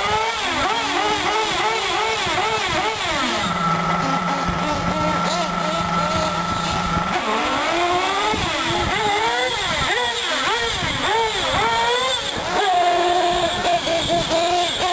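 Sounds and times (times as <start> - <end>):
small nitro engine revving: 0.0 - 14.9.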